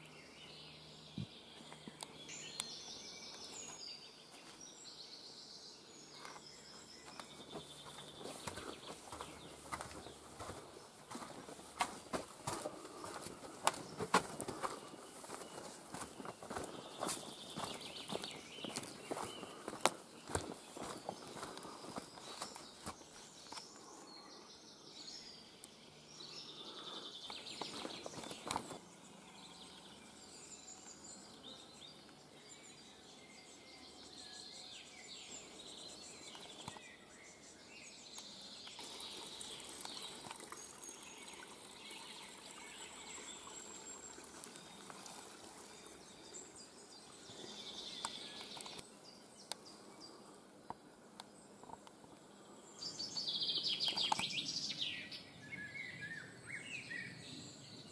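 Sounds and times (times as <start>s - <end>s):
birds chirping and trilling: 0.0s - 57.9s
faint background hiss: 0.0s - 57.9s.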